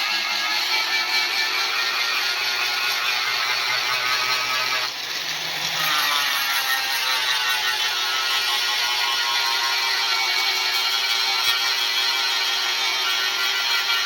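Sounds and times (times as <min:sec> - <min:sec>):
electric grinder on steel: 0:00.0 - 0:14.0.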